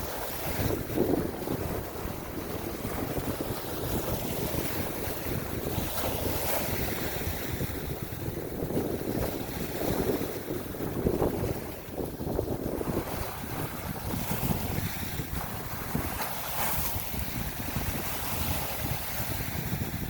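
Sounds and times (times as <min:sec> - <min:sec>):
waves rushing: 0:00.0 - 0:20.0
wind buffeting microphone: 0:00.0 - 0:20.0.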